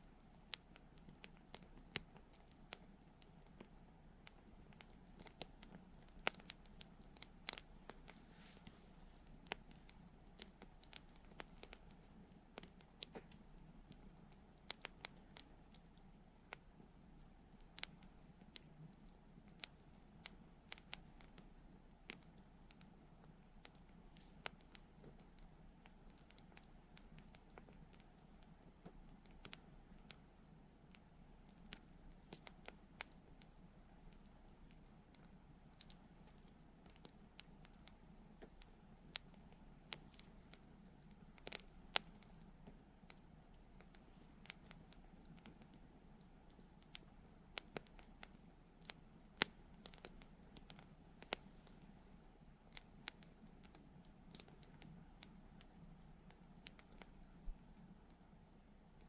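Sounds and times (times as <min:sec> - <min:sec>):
campfire crackling and popping: 0:00.0 - 0:51.8
faint low background: 0:00.0 - 0:59.0
faint low background noise: 0:00.0 - 0:59.0.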